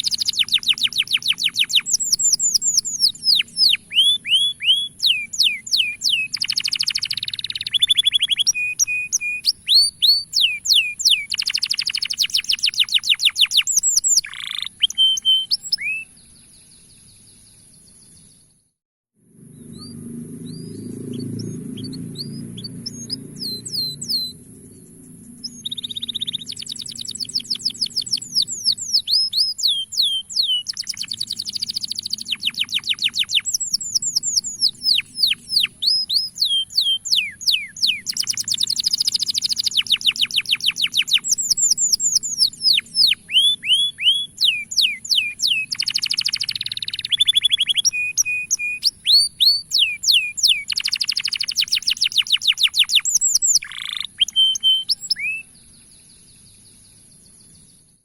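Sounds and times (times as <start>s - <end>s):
canary singing: 0.0s - 16.6s, 19.4s - 55.8s.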